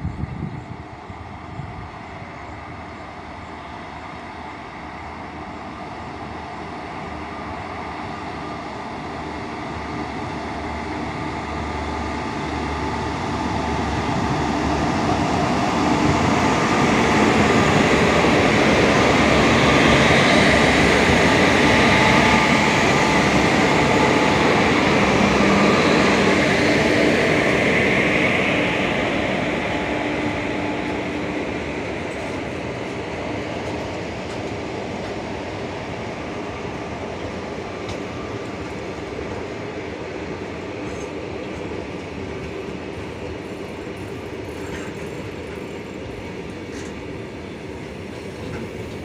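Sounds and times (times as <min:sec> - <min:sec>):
freight train rumbling and humming: 0:00.0 - 0:49.0.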